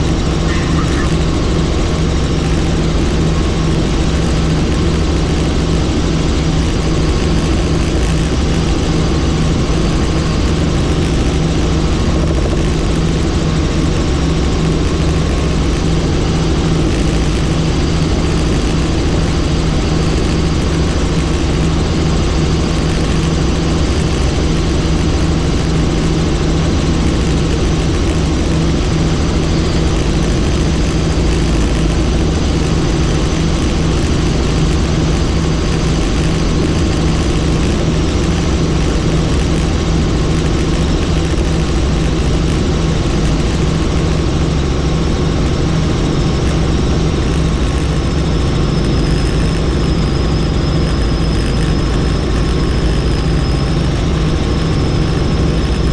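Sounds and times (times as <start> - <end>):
helicopter rotor and engine noise: 0.0 - 55.9.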